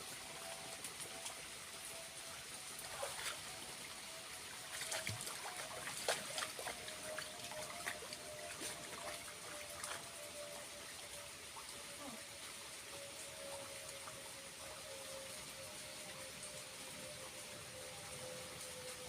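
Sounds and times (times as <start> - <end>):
small waterfall trickling: 0.0 - 19.0
water drips and splashes: 0.0 - 19.0.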